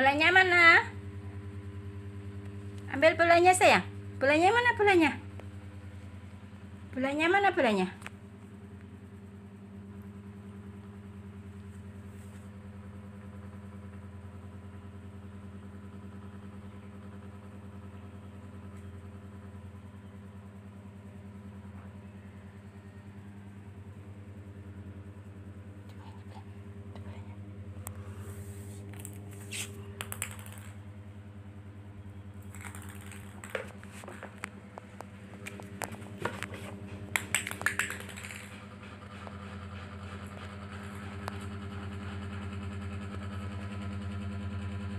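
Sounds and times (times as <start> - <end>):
low electrical hum: 0.0 - 44.9.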